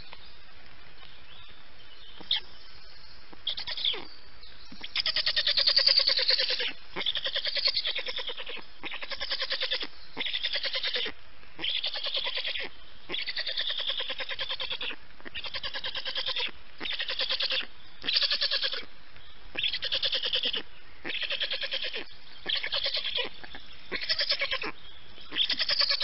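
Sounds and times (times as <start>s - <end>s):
bird chicks begging calls: 3.4s - 18.9s, 19.5s - 26.0s.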